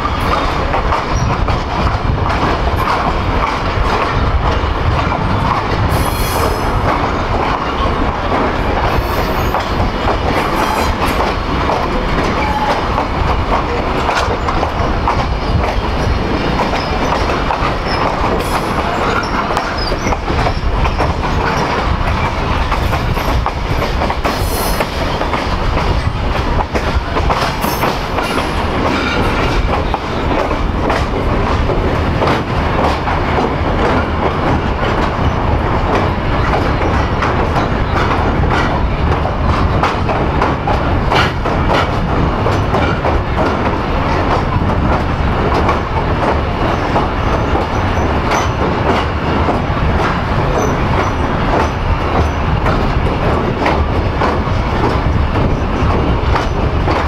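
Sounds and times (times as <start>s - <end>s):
rail joint clicks: 0.0s - 57.0s
train wheels rumbling on rail: 0.0s - 57.0s.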